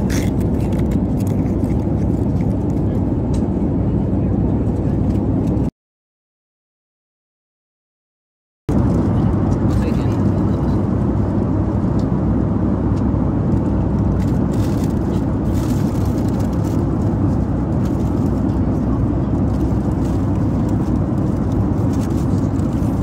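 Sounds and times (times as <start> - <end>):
airliner cabin drone: 0.0 - 5.7, 8.7 - 23.0.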